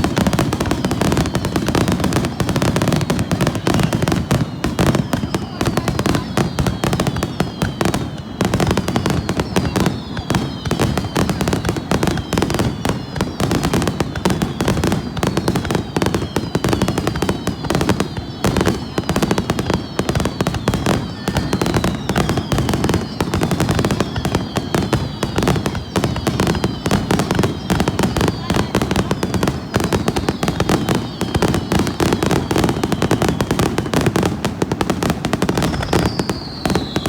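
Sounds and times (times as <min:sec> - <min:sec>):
fireworks crackling: 0:00.0 - 0:37.0
fireworks falling whistles: 0:00.0 - 0:37.0.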